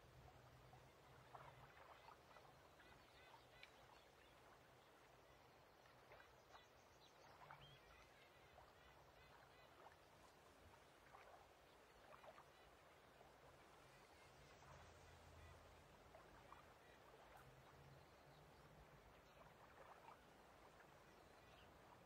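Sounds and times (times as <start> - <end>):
small splashes and drips: 0.0 - 22.0
water gently lapping: 0.0 - 22.0.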